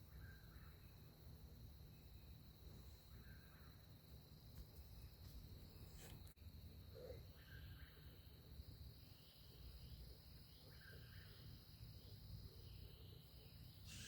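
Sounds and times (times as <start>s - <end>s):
insects trilling and chirping: 0.0s - 14.0s.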